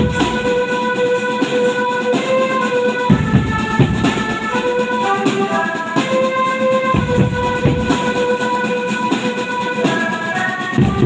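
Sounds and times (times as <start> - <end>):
heavy low drum strokes: 0.0 - 9.9
drum band melody in held notes: 0.0 - 11.0.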